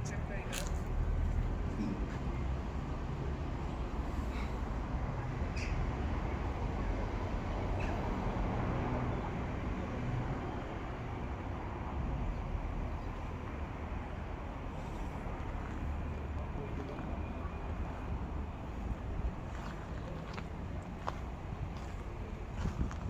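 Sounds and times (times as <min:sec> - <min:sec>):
low street rumble: 0:00.0 - 0:23.0.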